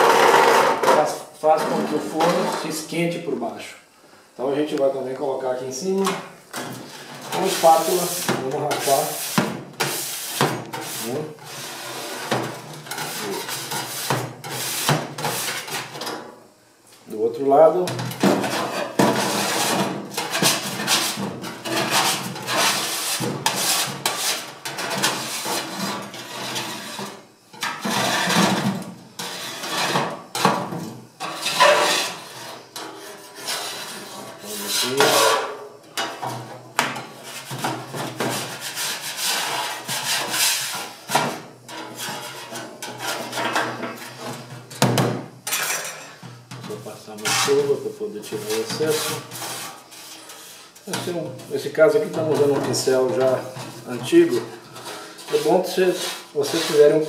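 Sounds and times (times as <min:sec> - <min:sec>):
metal spatula scraping steel plate: 0:00.0 - 0:02.9, 0:06.7 - 0:16.1, 0:18.2 - 0:30.5, 0:31.2 - 0:44.7, 0:45.5 - 0:57.0.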